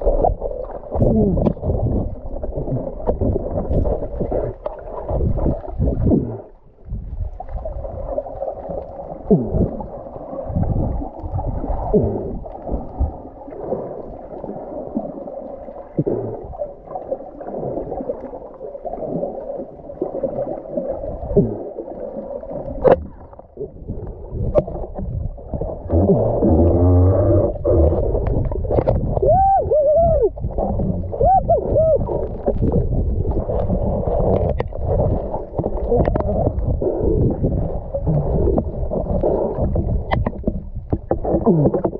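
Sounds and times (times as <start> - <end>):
muffled underwater water rush: 0.0 - 41.9.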